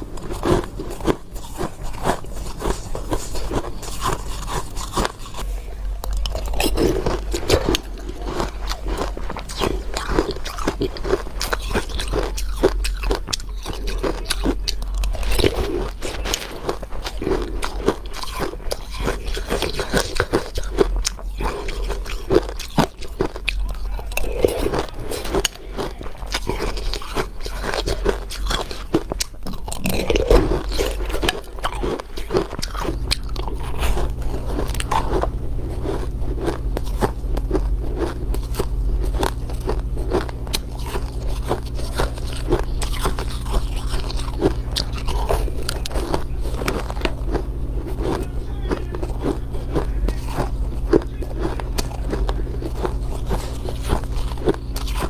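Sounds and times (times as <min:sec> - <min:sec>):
crunching and crackling: 0:00.0 - 0:55.0
steady low hum: 0:00.0 - 0:55.0.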